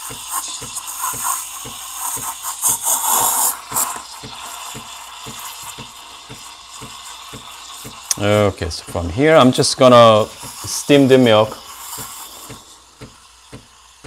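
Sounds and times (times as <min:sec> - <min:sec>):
espresso machine pump pulsing: 0:00.0 - 0:14.0
steam hissing from wand: 0:00.0 - 0:14.0.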